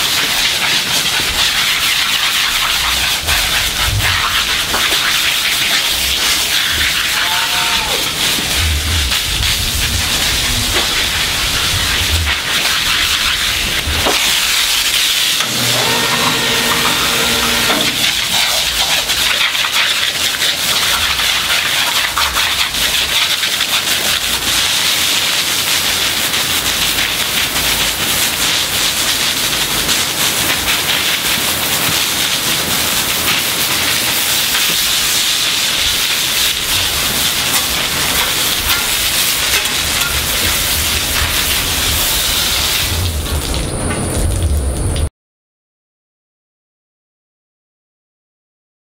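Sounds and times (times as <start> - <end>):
water jet spraying: 0.0 - 43.5.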